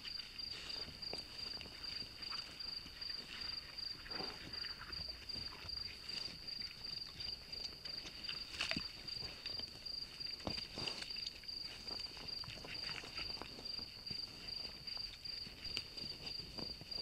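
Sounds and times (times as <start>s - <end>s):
boar rooting through dry leaves: 0.0s - 17.0s
night insect chirping: 0.0s - 17.0s.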